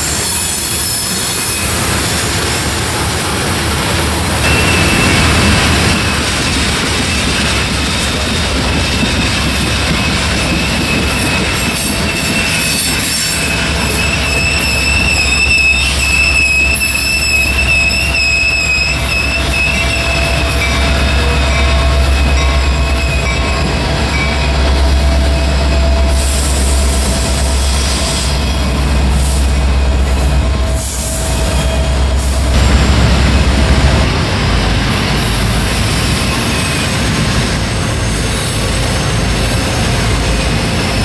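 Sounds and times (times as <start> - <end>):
train wheel flange squeal: 0.0 - 32.6, 34.7 - 41.0
diesel locomotive rumble: 0.0 - 41.0
freight cars rolling: 0.0 - 41.0.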